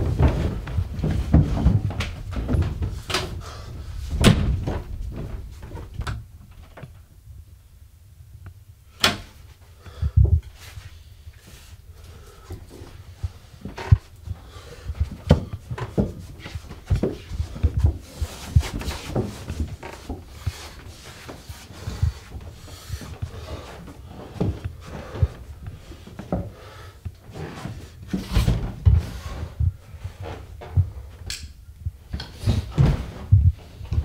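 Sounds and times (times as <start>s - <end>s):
footsteps with low thumps: 0.0s - 7.5s, 10.0s - 31.2s, 31.8s - 34.0s.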